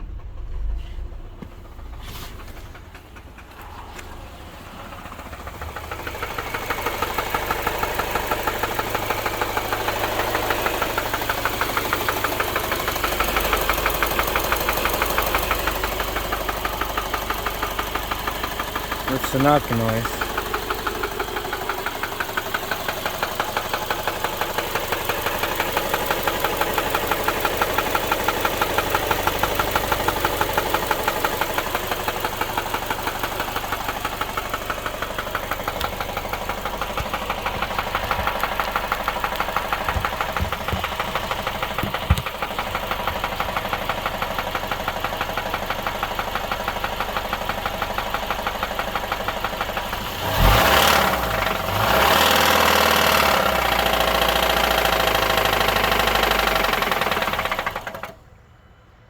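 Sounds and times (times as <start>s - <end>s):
engine running with knocking: 0.0s - 58.2s.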